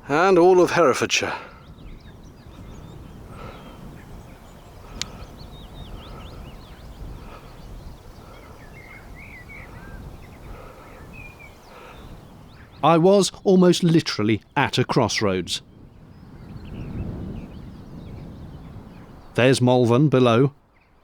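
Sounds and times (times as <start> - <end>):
small birds twittering: 0.0 - 21.0
wind rumbling on microphone: 0.0 - 21.0.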